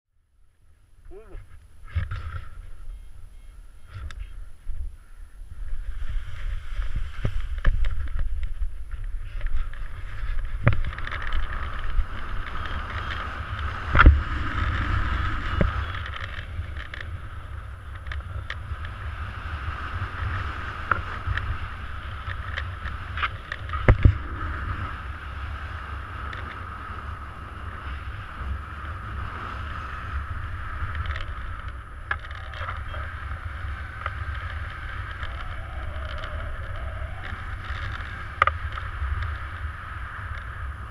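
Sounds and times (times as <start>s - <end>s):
wind buffeting microphone: 1.0s - 40.9s.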